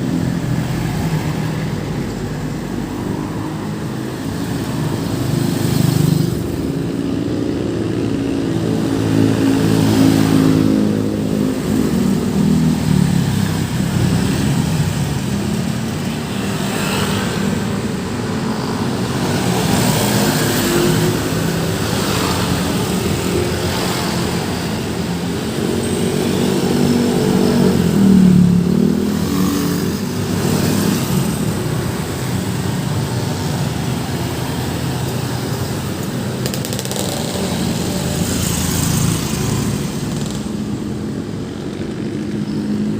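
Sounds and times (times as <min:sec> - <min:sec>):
road traffic passing: 0:00.0 - 0:42.9.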